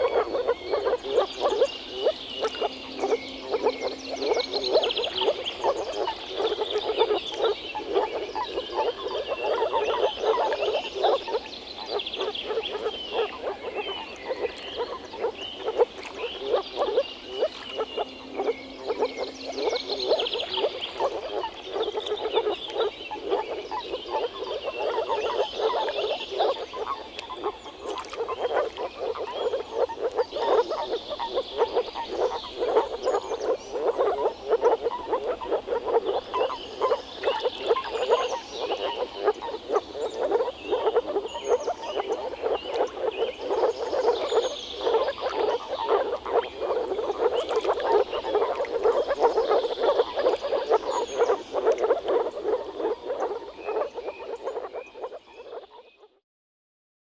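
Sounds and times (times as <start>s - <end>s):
higher frog chirps: 0.0s - 55.9s
frog chorus low pulses: 0.0s - 56.2s.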